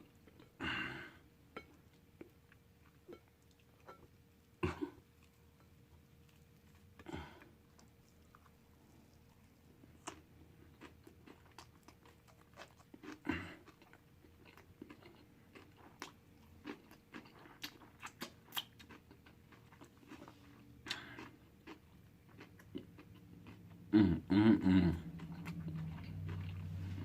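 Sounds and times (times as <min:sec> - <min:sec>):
person chewing with wet smacks: 0:01.5 - 0:24.0, 0:24.6 - 0:27.0.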